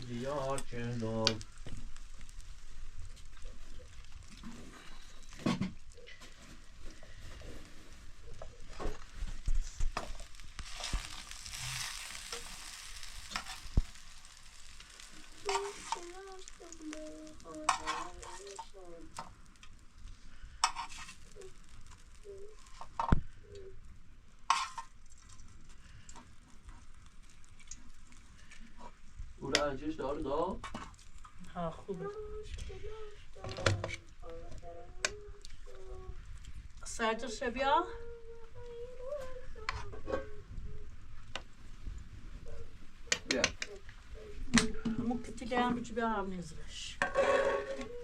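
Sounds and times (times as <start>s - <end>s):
sizzling hiss: 0.0s - 48.0s.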